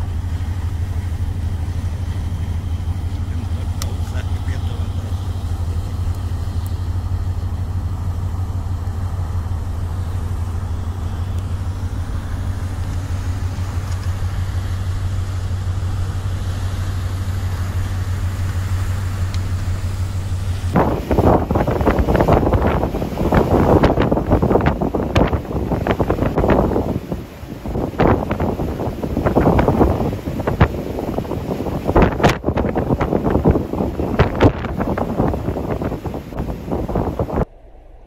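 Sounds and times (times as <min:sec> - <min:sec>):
ship engine drone: 0:00.0 - 0:38.0
wind buffeting microphone: 0:00.0 - 0:38.0.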